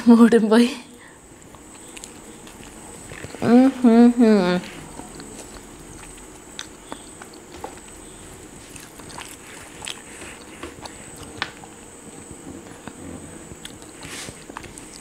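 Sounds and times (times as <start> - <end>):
person chewing: 1.3 - 15.0.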